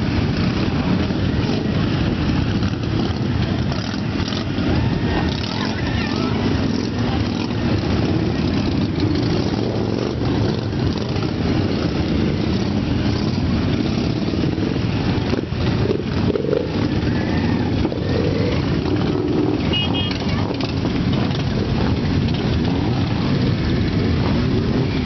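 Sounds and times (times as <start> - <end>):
many motorcycle engines idling: 0.0 - 25.0.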